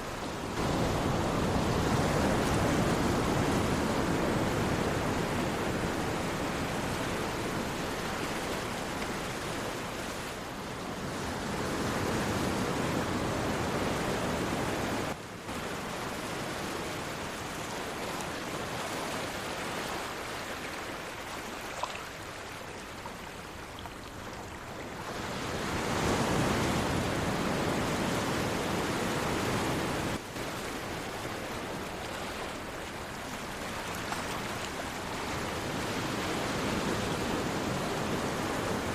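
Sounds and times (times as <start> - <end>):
ocean surf washing in: 0.0 - 23.6, 24.8 - 38.9.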